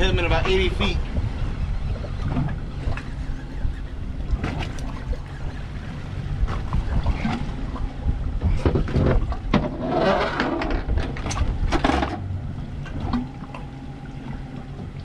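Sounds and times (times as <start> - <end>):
water washing against boat hull: 0.0 - 15.0
wind buffeting microphone: 0.0 - 15.0.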